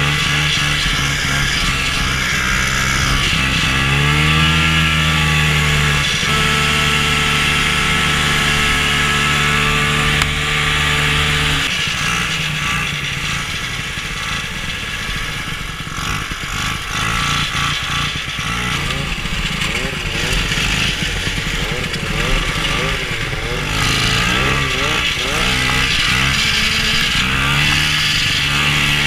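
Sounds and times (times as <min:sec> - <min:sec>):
snowmobile engine running: 0:00.0 - 0:29.0.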